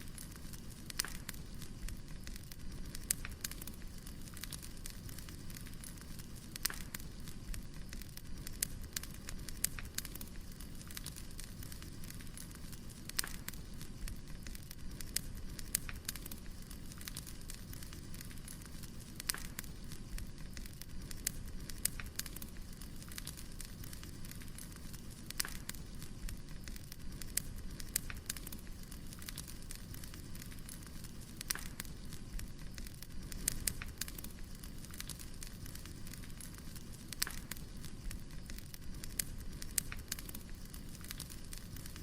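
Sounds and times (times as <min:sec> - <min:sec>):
fire rumbling: 0:00.0 - 0:42.0
logs crackling and popping: 0:00.0 - 0:42.0.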